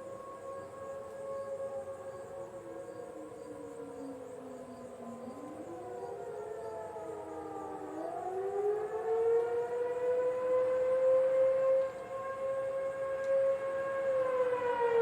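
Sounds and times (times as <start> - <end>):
distant tornado sirens wailing: 0.0 - 15.0.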